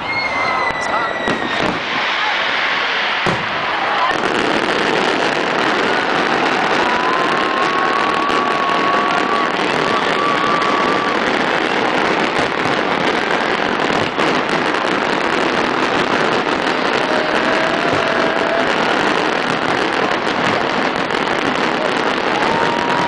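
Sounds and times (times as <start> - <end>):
firework whistles: 0.0 - 23.0
fireworks crackling: 0.0 - 23.0.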